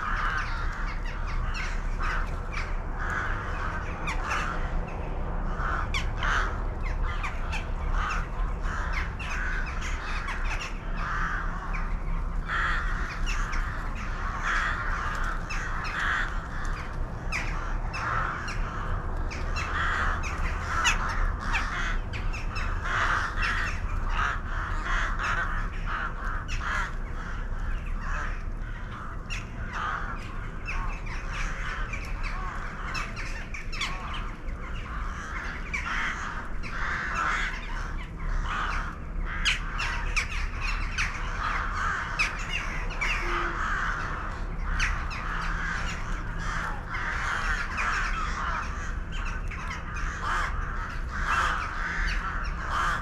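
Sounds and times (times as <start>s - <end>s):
flock of birds calling: 0.0s - 53.0s.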